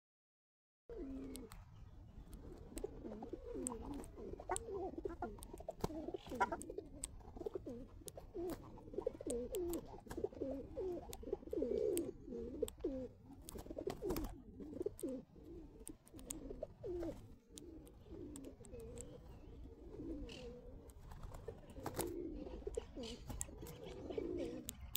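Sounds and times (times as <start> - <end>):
pigeons cooing: 0.9 - 24.9.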